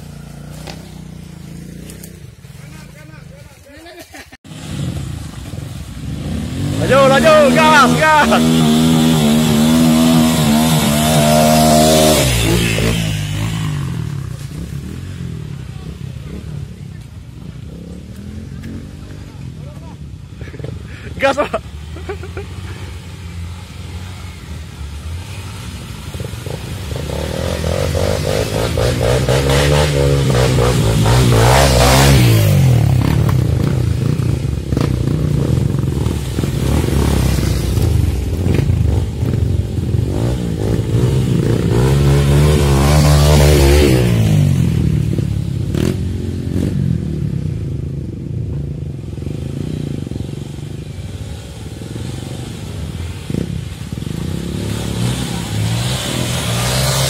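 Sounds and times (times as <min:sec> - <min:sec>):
motorcycle engine revving: 0:00.0 - 0:03.5, 0:04.5 - 0:20.0, 0:20.7 - 0:57.0.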